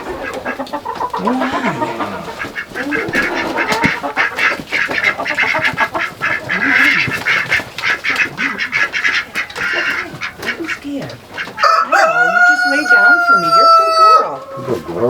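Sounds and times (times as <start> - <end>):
poultry flock calling: 0.0 - 15.0.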